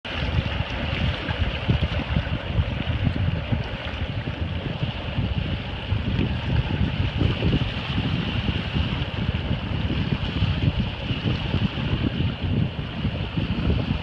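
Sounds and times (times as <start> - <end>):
sea water washing at shore: 0.0 - 14.0
wind buffeting microphone: 0.0 - 14.0.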